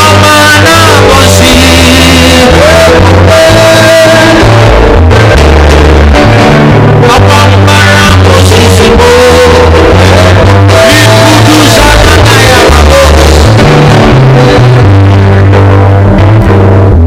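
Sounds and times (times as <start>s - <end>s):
person singing: 0.0s - 15.5s
heavy bass line: 0.0s - 17.0s
live worship band music: 0.0s - 17.0s.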